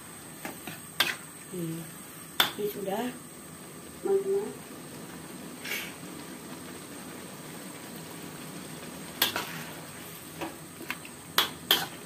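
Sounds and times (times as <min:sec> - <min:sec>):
sauce bubbling in a wok: 0:00.0 - 0:12.0.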